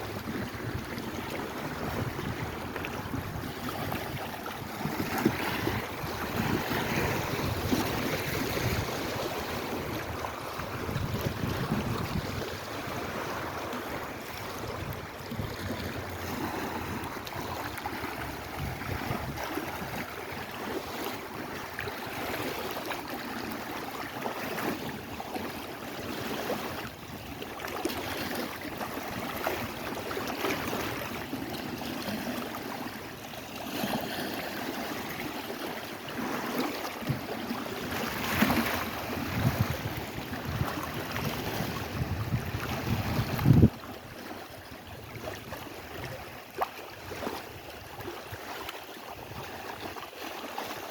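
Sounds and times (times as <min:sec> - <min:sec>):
lake waves washing: 0:00.0 - 0:50.9.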